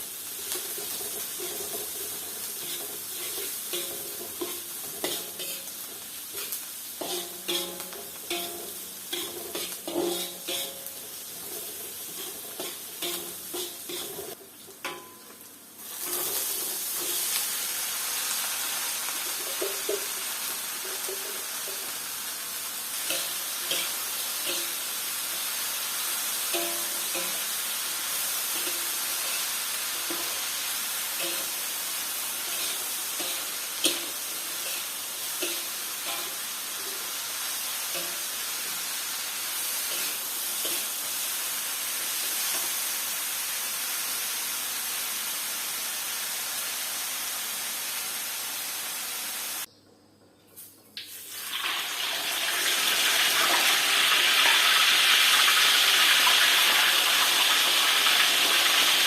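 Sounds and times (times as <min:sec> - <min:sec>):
food sizzling in hot oil: 0:00.0 - 0:49.7, 0:51.0 - 0:59.0.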